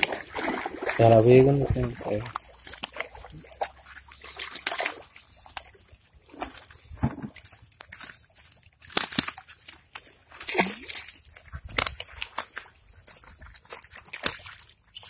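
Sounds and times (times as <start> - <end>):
river water sloshing and splashing: 0.0 - 15.0.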